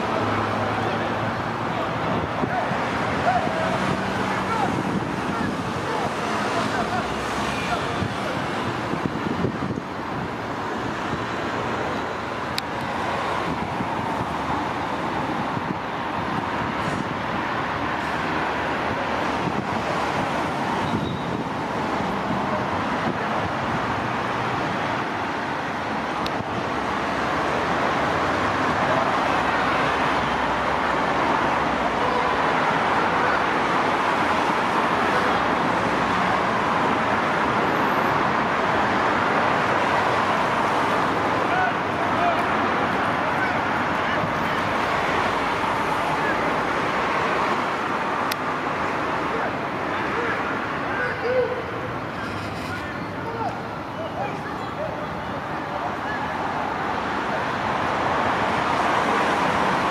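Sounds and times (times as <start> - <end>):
distant road traffic hum: 0.0 - 59.9.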